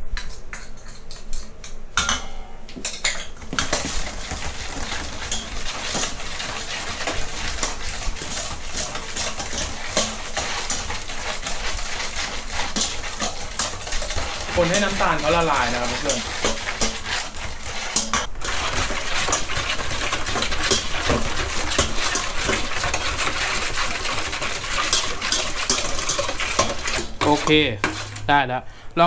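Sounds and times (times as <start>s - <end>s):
metal ladle stirring in bowl: 2.8s - 28.5s.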